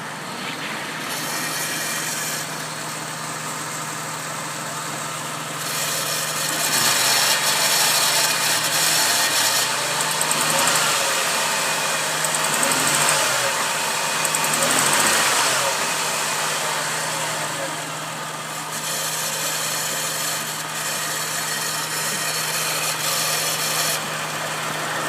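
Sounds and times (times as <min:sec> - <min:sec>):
engine idling and revving: 0:00.0 - 0:25.0
strange engine noise: 0:00.0 - 0:25.0.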